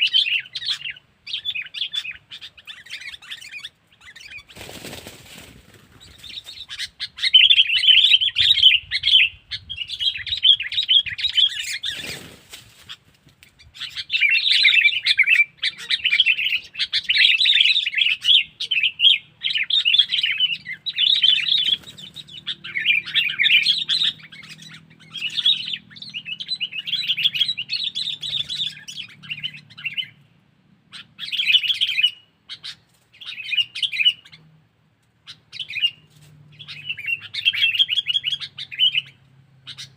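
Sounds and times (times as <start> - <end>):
bird chattering calls: 0.0 - 30.2, 30.9 - 34.4, 35.2 - 39.9.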